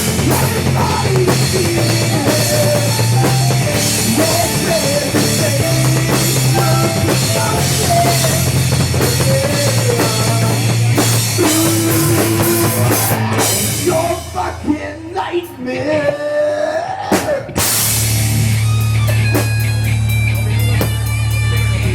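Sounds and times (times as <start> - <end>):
drum kit: 0.0 - 14.9, 17.0 - 21.9
loud rock music: 0.0 - 21.9.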